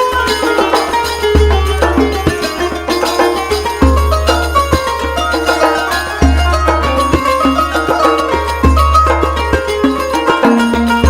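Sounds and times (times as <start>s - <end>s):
plucked instrumental music: 0.0s - 11.0s.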